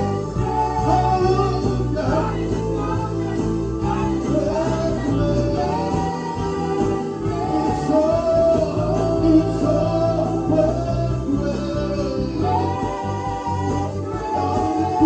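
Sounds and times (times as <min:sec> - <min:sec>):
band backing: 0:00.0 - 0:15.0.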